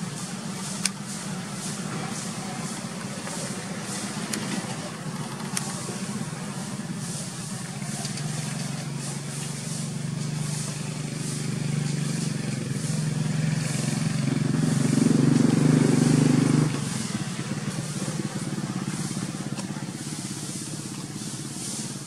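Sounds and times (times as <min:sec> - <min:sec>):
motor vehicle engine running: 0:00.0 - 0:22.0.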